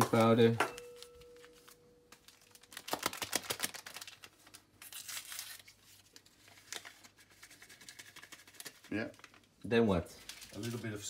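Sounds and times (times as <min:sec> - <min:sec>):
paper sachet tearing and crinkling: 0:01.4 - 0:09.5, 0:10.1 - 0:11.0.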